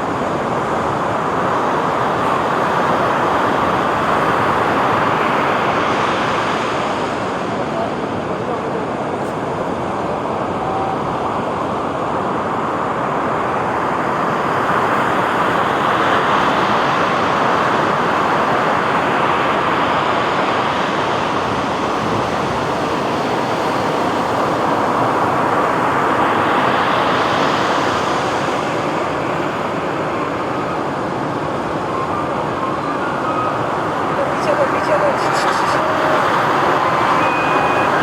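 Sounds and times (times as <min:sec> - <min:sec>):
sea waves on a beach: 0:00.0 - 0:38.0.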